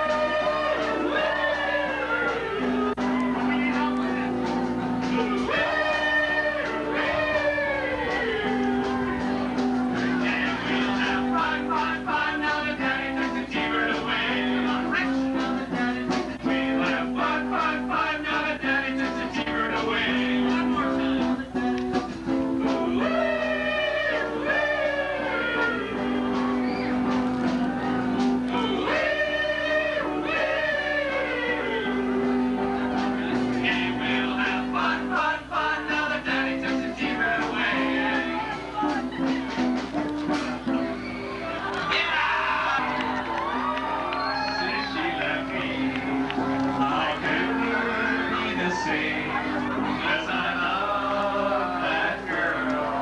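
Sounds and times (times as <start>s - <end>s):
person singing: 0.0s - 39.6s, 41.8s - 53.0s
drums: 0.0s - 53.0s.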